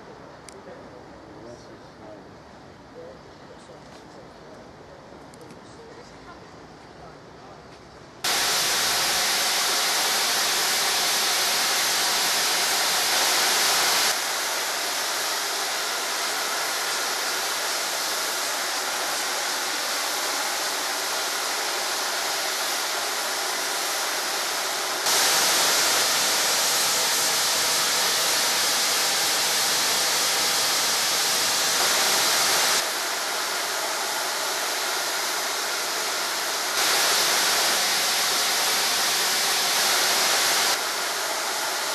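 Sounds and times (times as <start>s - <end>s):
steam locomotive blowing off steam: 8.2s - 41.9s.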